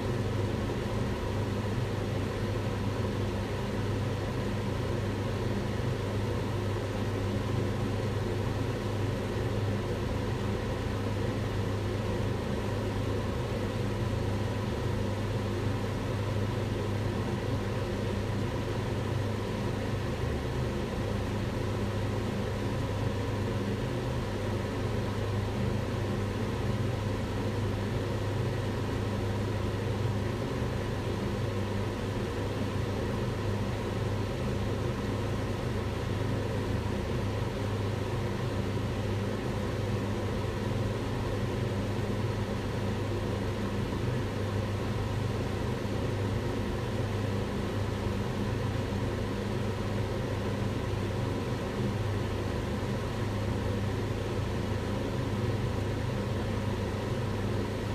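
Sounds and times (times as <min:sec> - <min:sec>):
extractor hood fan running: 0:00.0 - 0:57.9.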